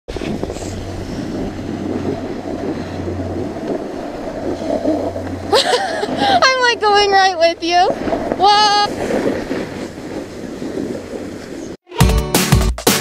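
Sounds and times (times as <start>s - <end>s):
snowboard sliding on snow: 0.1s - 11.8s.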